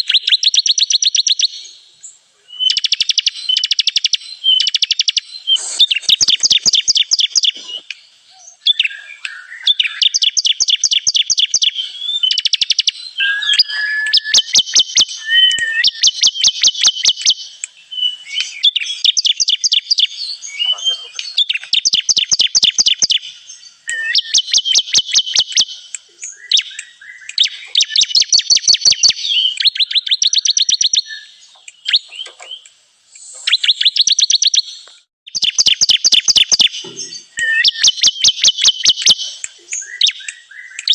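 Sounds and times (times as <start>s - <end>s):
bird rapid sharp chirps: 0.0s - 1.6s, 2.6s - 8.0s, 8.6s - 32.6s, 33.2s - 40.9s.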